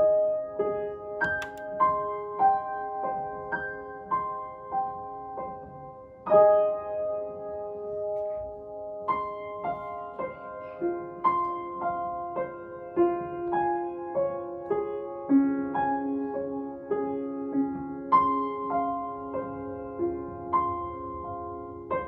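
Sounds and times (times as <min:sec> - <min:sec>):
grand piano chords: 0:00.0 - 0:22.0.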